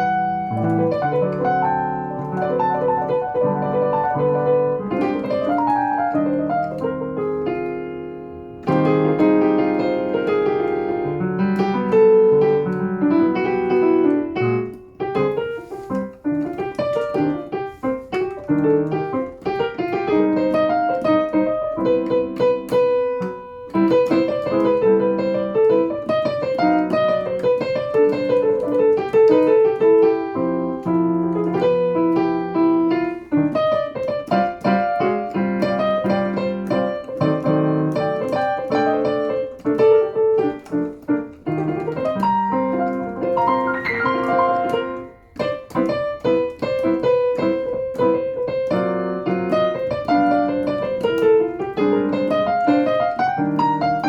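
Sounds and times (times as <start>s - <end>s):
solo jazz piano: 0.0s - 54.0s.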